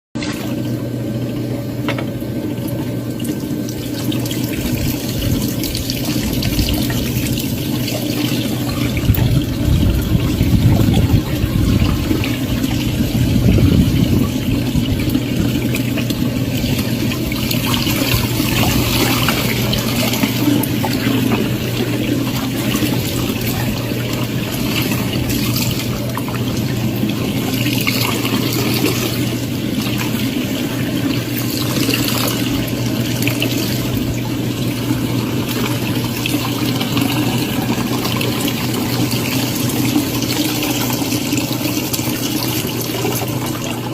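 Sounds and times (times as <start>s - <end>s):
washing machine motor hum: 0.2s - 43.9s
water churning and sloshing: 0.2s - 43.9s.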